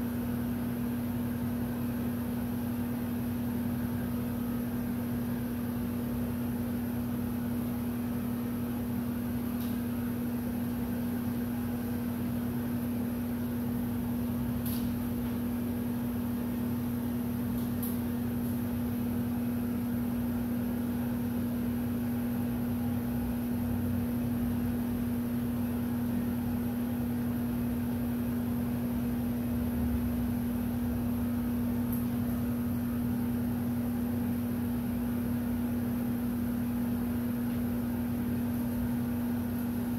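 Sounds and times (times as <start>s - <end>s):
heat gun fan whirring: 0.0s - 39.9s.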